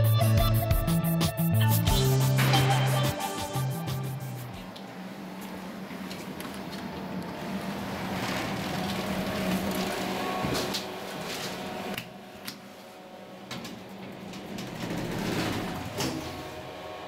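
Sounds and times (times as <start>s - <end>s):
elevator machinery humming: 0.0s - 17.0s.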